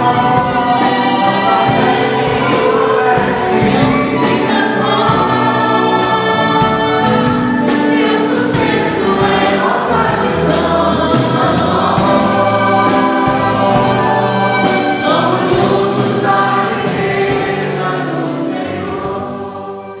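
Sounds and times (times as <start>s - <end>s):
choir singing gospel song: 0.0s - 20.0s.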